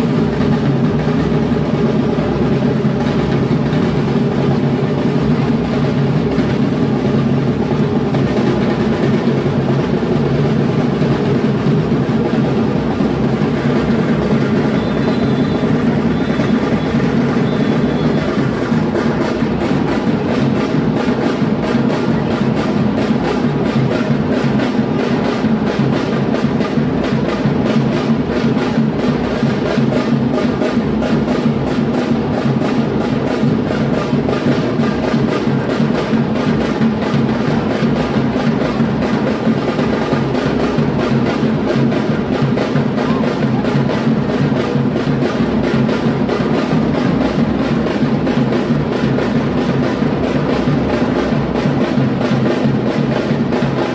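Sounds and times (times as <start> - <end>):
samba percussion drumming: 0.0 - 53.9.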